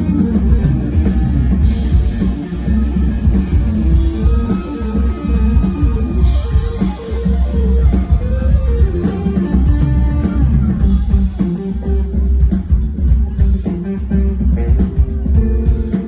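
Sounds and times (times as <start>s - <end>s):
drum kit: 0.0s - 16.0s
electric guitar: 0.0s - 16.0s
heavy bass: 0.0s - 16.0s.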